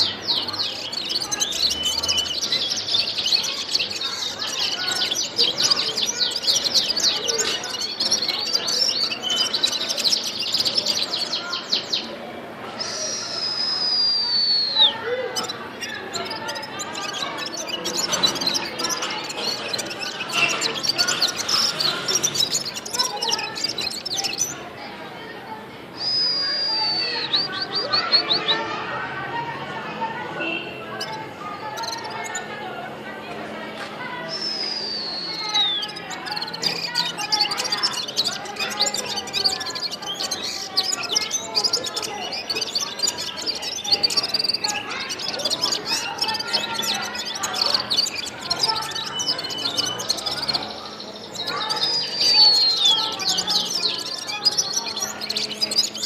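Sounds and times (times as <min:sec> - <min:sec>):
songbird singing chirps and whistles: 0:00.0 - 0:56.0.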